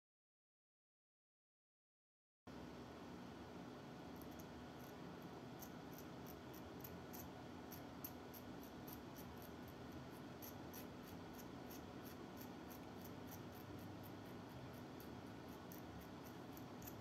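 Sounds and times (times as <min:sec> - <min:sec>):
faint steady hum: 0:02.5 - 0:17.0.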